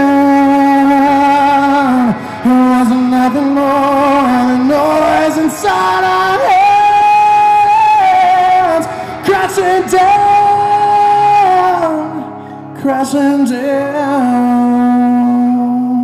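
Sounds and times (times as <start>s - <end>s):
rock band playing live: 0.0s - 15.0s
man singing long notes: 0.0s - 16.0s.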